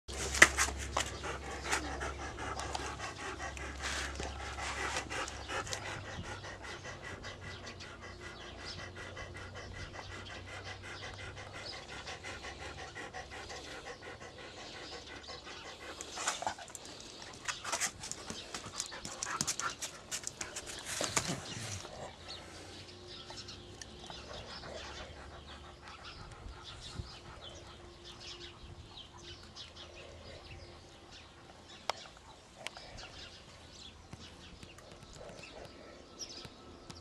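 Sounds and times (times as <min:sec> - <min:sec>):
dog panting: 0:00.1 - 0:37.0.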